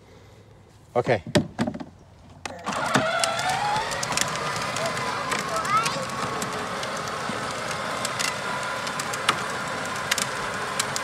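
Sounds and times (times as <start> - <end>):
plastic wheels rolling on asphalt: 1.6 - 11.0.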